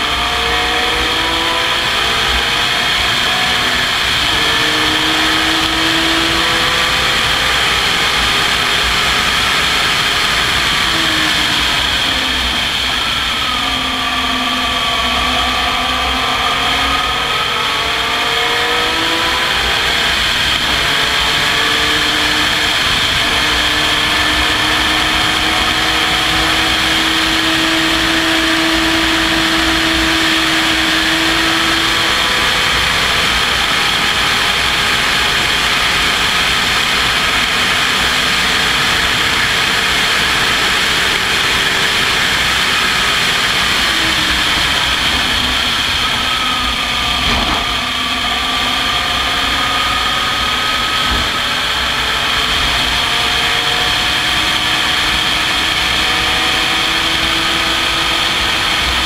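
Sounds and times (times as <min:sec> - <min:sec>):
race car engine at high revs: 0:00.0 - 0:59.0
wind and road noise: 0:00.0 - 0:59.0.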